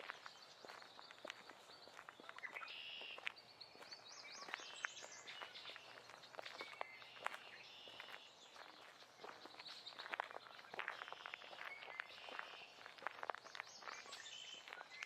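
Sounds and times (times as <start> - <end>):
footsteps on forest floor: 0.0 - 15.0
songbirds singing: 0.0 - 15.0.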